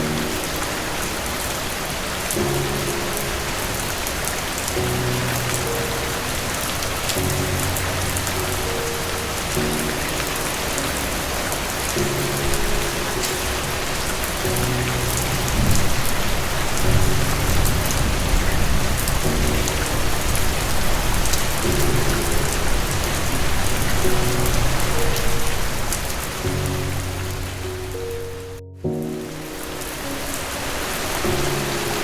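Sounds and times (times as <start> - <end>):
heavy rain: 0.0 - 32.0
soft music with low notes: 0.0 - 32.0
thunder rumbling: 0.0 - 32.0.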